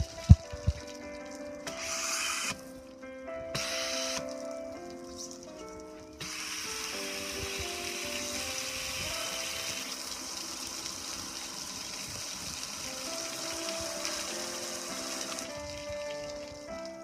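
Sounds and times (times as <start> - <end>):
water jets spraying: 0.0 - 2.9, 3.5 - 17.0.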